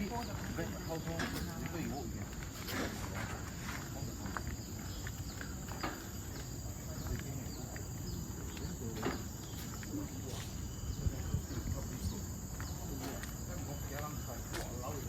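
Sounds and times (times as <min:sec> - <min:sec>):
insect chirps and ticks: 0:00.0 - 0:15.0
insects droning: 0:00.0 - 0:15.0.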